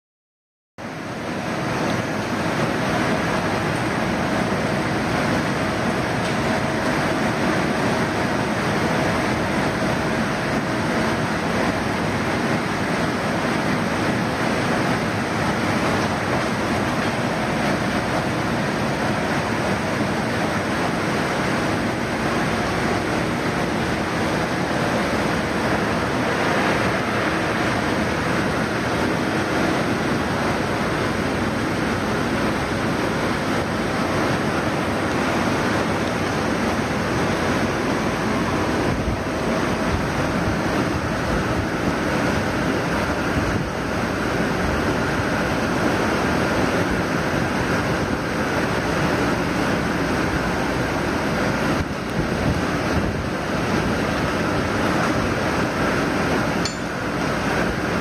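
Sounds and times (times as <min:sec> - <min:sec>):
liquid churning in tanks: 0:00.8 - 0:58.0.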